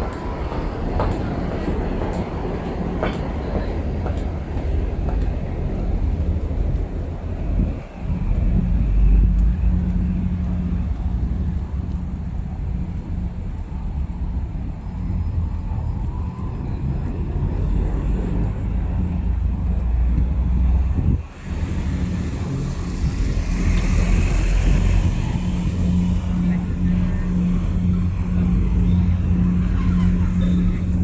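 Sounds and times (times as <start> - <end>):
low city rumble: 0.0 - 31.0.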